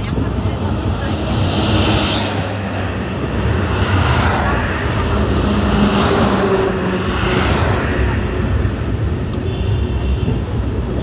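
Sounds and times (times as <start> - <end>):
bus whooshing by: 0.0 - 9.2
traffic rushing past: 0.0 - 11.0
vehicle rumble and wind noise: 0.0 - 11.0.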